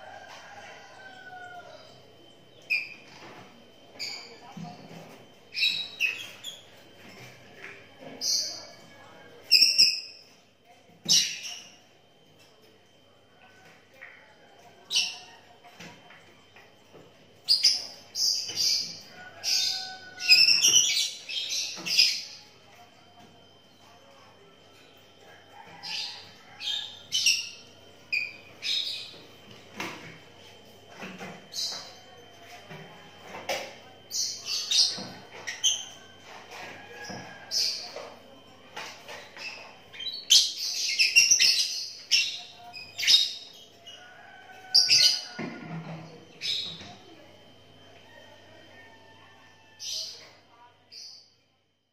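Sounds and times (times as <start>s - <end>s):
lovebirds chattering: 0.0s - 10.4s, 11.0s - 12.2s, 14.8s - 48.9s.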